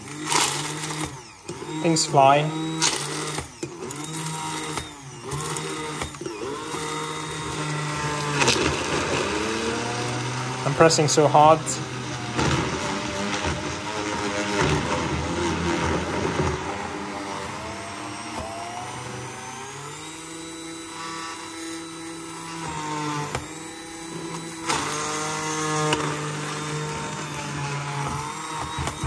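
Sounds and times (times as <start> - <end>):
hand blender motor whine: 0.0 - 29.0.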